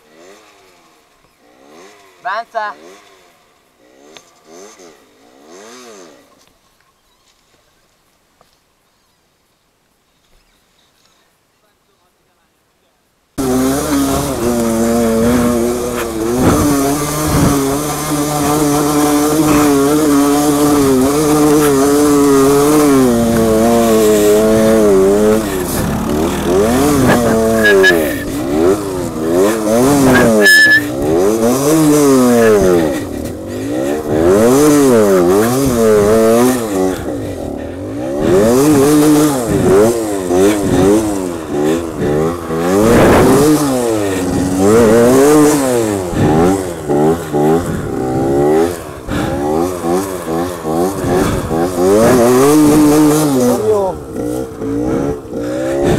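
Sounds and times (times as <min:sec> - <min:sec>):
motorcycle engine revving: 0:00.0 - 0:07.0, 0:13.4 - 0:55.9.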